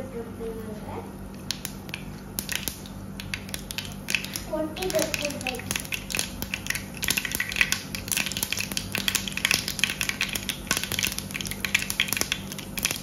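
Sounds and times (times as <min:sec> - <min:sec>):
seeds popping in hot oil: 0:01.4 - 0:13.0.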